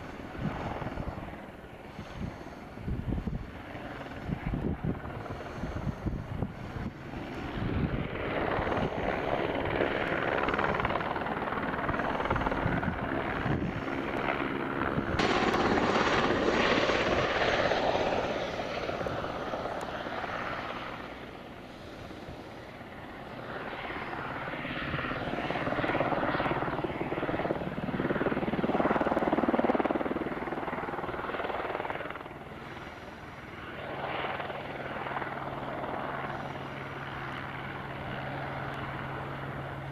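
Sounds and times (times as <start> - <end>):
helicopter flying low: 0.0 - 39.9.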